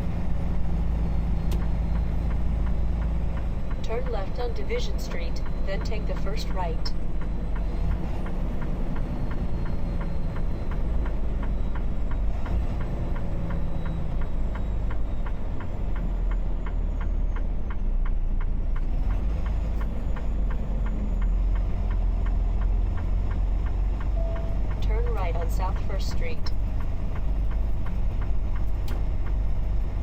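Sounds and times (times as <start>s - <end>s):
truck engine rumbling: 0.0s - 30.0s
turn signal clicking: 1.4s - 29.9s.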